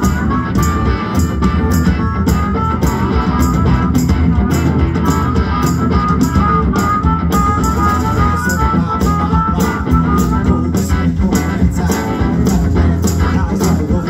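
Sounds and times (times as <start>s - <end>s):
electric guitar lines: 0.0s - 14.0s
rock band playing: 0.0s - 14.0s.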